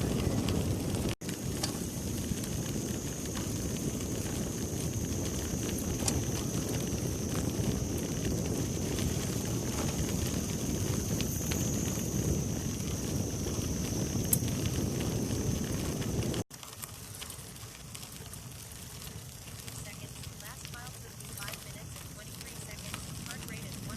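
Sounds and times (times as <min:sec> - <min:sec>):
clicks from trail surface: 0:00.0 - 0:23.9
wind and tyre rumble: 0:00.0 - 0:23.9.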